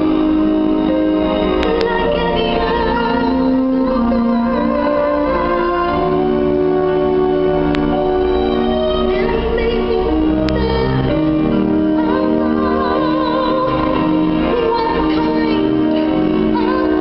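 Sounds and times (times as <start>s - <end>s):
woman singing with vibrato: 1.6s - 6.5s, 8.2s - 17.0s.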